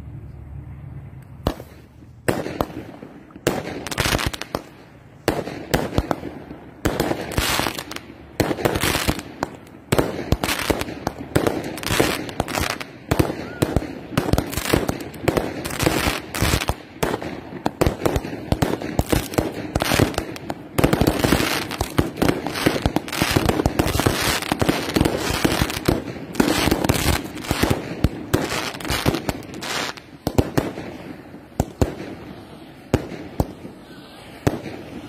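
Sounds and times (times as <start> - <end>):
fireworks cracking and banging: 1.4 - 35.0.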